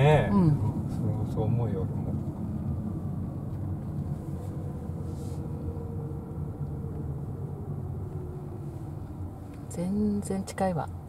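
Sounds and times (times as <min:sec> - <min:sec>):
engine and tyre rumble in car: 0:00.0 - 0:11.0
faint whine dropping in pitch: 0:00.4 - 0:09.8.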